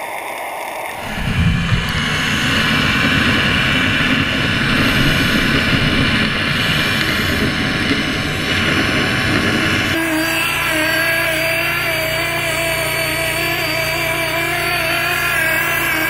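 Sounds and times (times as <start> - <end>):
underwater net cleaner churning: 0.0 - 16.0.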